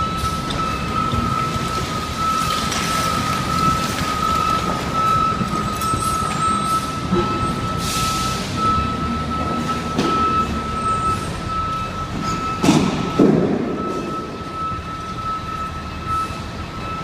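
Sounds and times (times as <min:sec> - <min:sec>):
backup alarm beeping: 0:00.0 - 0:17.0
diesel earthmoving equipment running: 0:00.0 - 0:17.0.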